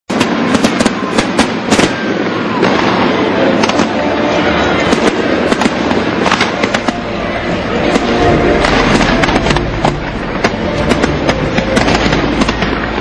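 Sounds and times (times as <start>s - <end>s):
fireworks crackling hiss: 0.1s - 13.0s
fireworks cracks and bangs: 0.1s - 13.0s.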